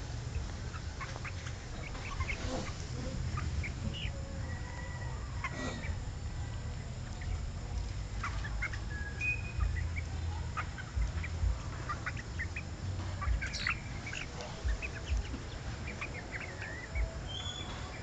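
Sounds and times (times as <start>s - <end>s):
gliding chick calls: 0.0s - 6.1s, 6.8s - 18.0s
chicks peeping and clucking: 0.0s - 18.0s
low microphone rumble: 0.0s - 18.0s.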